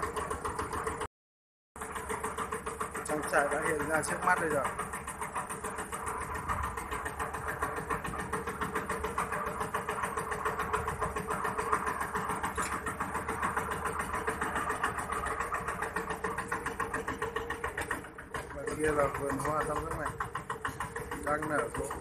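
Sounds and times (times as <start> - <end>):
small boat engine running: 0.0 - 1.1, 1.8 - 22.0.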